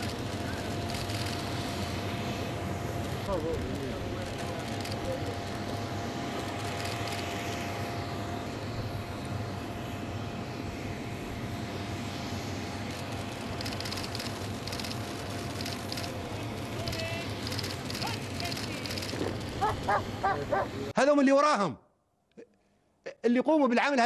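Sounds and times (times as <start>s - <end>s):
aircraft engine hum: 0.0s - 21.0s.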